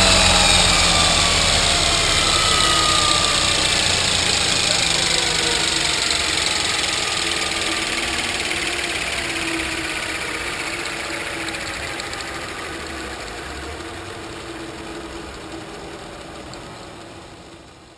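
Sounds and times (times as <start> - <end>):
model helicopter rotor humming: 0.0 - 17.9.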